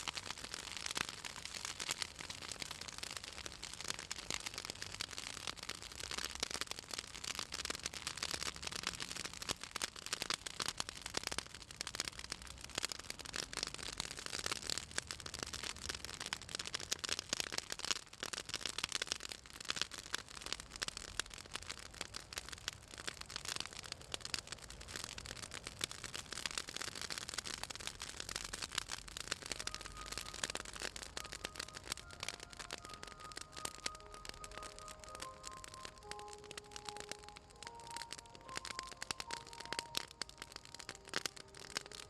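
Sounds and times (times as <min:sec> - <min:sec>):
fire crackling and popping: 0:00.0 - 0:42.0.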